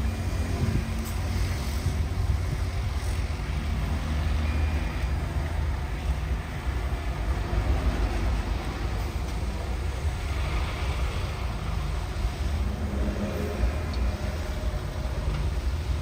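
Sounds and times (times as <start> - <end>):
diesel machinery engine rumble: 0.0 - 16.0.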